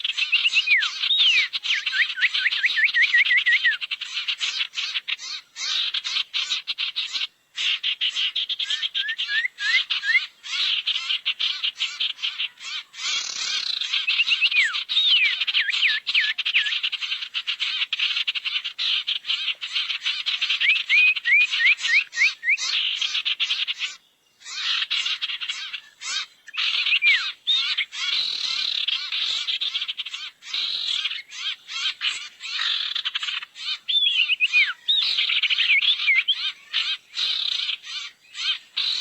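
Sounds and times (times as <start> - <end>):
bird chattering and whistling: 0.0 - 39.0.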